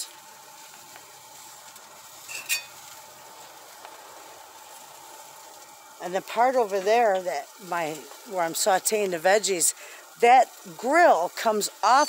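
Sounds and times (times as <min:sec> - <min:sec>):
patties sizzling on a grill: 0:00.0 - 0:12.0.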